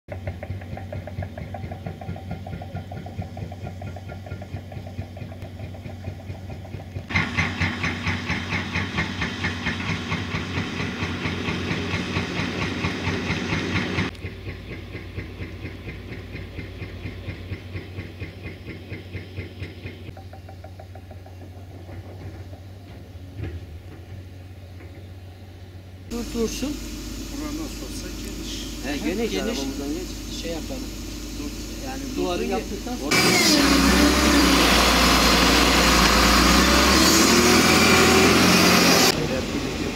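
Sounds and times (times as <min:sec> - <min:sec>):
engine running with pulsing beat: 0:00.1 - 0:25.3, 0:26.1 - 0:39.9.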